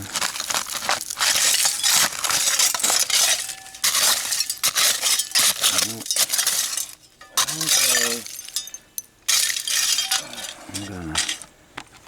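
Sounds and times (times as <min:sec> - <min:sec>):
glass shards clinking: 0:01.2 - 0:11.5.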